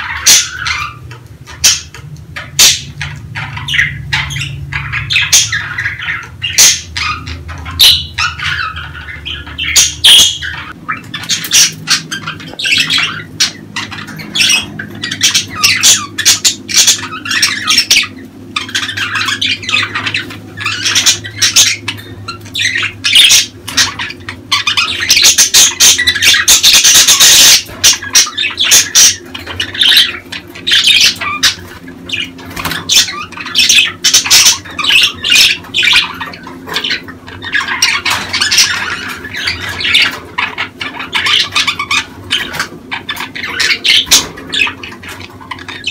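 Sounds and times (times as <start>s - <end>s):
budgerigars chattering and squawking: 0.0s - 45.9s.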